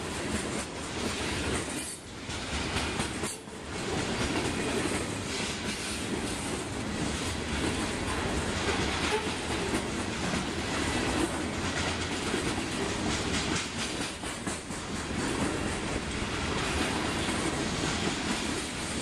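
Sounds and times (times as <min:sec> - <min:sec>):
steel wheels rumbling on rails: 0:00.0 - 0:19.0
wheels clicking over rail joints: 0:00.2 - 0:19.0.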